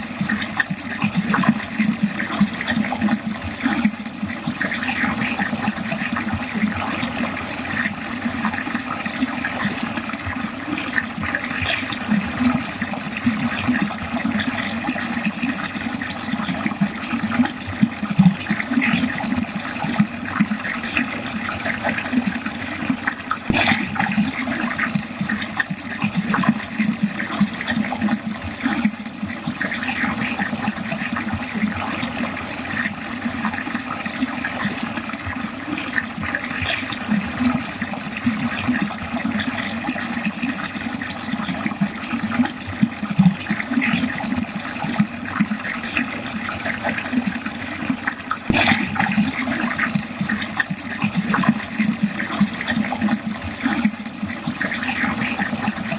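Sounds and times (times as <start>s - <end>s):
water running down a drain: 0.0s - 55.9s.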